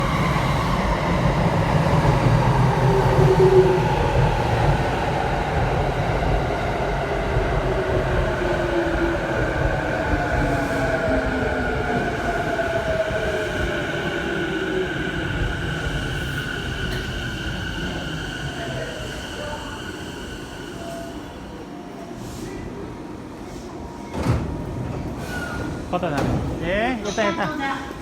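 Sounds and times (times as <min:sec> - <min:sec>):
electric train rumbling: 0:00.0 - 0:27.2.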